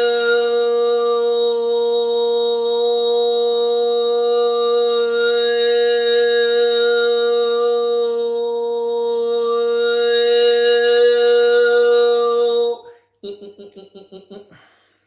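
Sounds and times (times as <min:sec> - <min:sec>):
voice holding a long note: 0:00.0 - 0:13.5.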